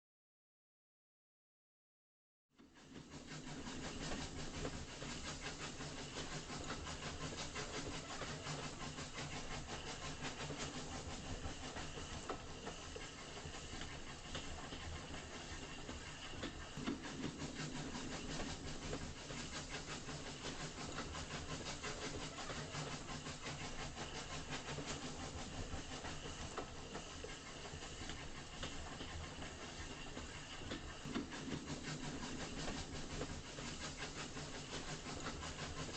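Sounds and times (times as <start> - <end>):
model diesel locomotive engine sound: 2.6 - 35.9.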